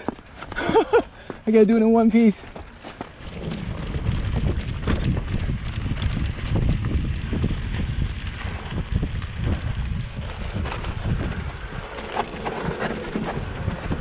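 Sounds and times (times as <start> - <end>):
bike rattling over rocks: 0.0 - 14.0
wind noise on microphone: 2.6 - 14.0.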